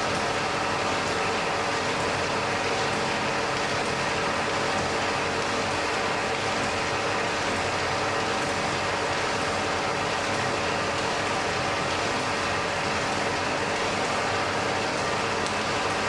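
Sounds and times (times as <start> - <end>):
forge fire burning: 0.1 - 16.0.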